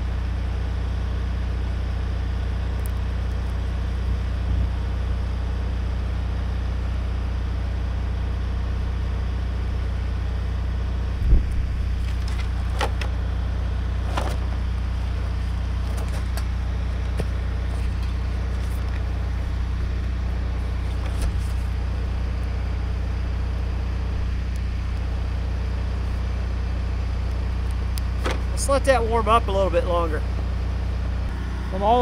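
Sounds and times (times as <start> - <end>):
low electrical hum: 0.0 - 32.0.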